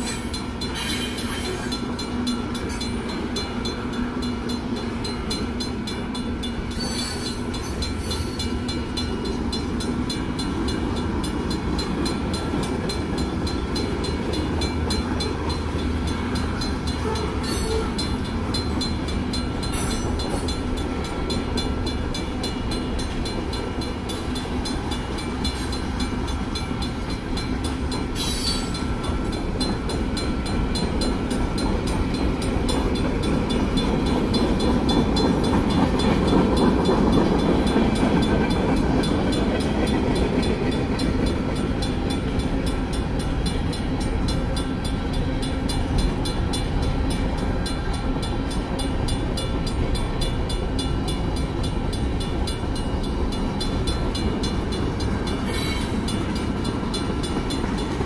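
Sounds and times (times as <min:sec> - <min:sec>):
crossing bell ringing: 0:00.0 - 0:58.0
train wheels running on rails: 0:00.0 - 0:58.0.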